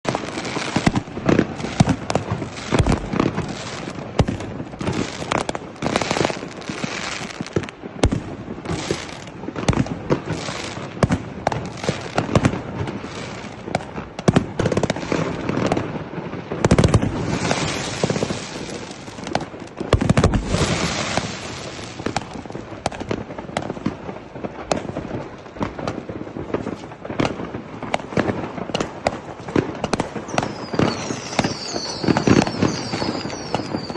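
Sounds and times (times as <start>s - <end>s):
fireworks bursting: 0.0s - 33.9s
fireworks crackling: 0.0s - 33.9s.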